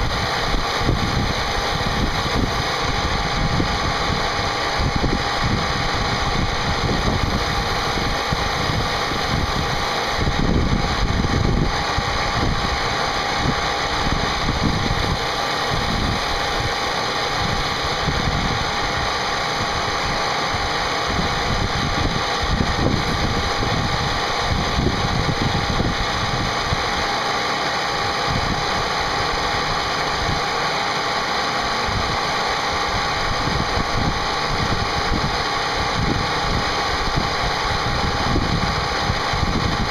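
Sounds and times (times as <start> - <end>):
low rumble of cutter: 0.0 - 39.9
spindle whine: 0.0 - 39.9.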